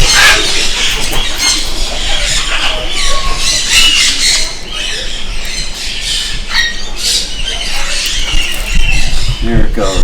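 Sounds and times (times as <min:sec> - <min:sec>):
birds squawking and chattering: 0:00.0 - 0:10.0.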